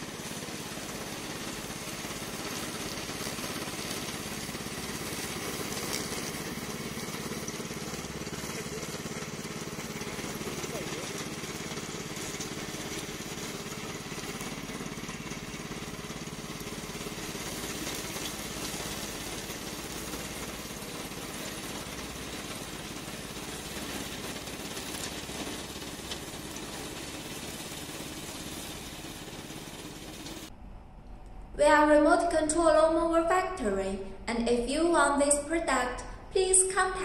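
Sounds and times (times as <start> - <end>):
lawn mower engine running: 0.0 - 30.5.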